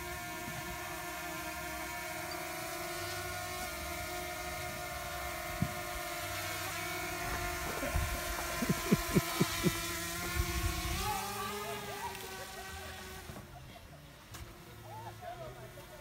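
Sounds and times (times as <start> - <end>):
drone propellers whining: 0.0 - 13.5.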